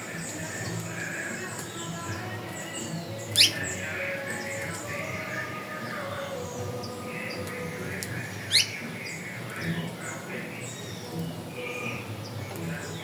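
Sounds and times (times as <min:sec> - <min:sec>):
birds chirping and whistling: 0:00.0 - 0:13.0
soft background music: 0:00.0 - 0:13.0.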